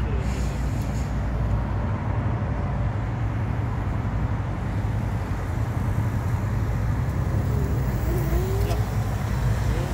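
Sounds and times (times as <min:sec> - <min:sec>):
cars passing: 0:00.0 - 0:09.9.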